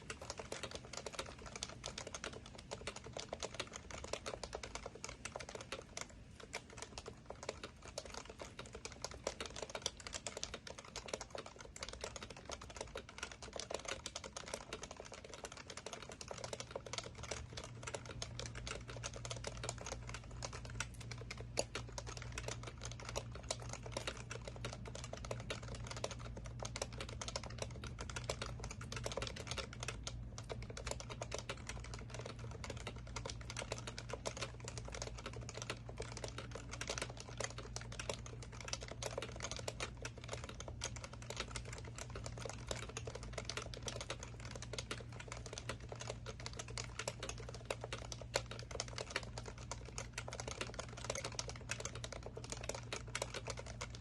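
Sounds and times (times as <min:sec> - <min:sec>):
fast typing on keyboard: 0:00.0 - 0:54.0
steady low hum: 0:00.0 - 0:54.0.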